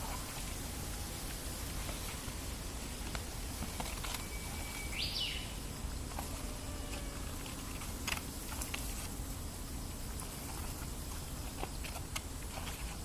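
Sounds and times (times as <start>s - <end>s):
soft ambient noise: 0.0s - 13.0s.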